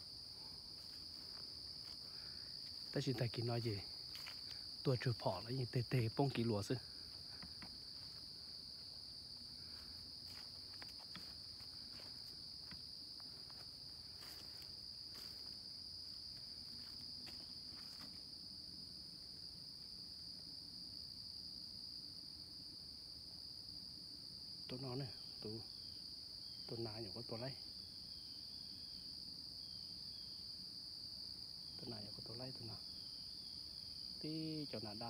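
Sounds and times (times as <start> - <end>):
crickets and insects trilling: 0.0 - 35.0.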